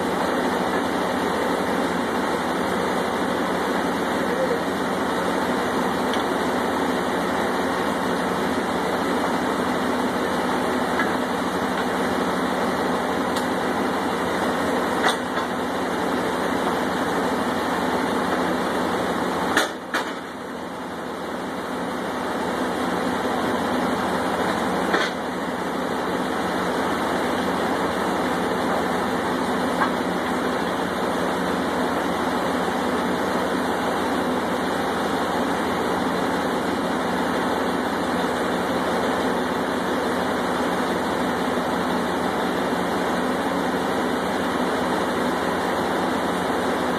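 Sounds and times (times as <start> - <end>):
drilling rig engines droning: 0.0 - 46.9.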